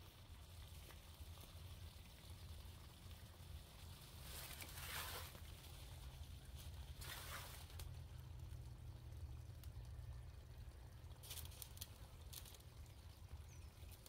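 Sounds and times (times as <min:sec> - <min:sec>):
hose water spraying on plants: 0:00.0 - 0:14.0
low steady rumble: 0:00.0 - 0:14.0.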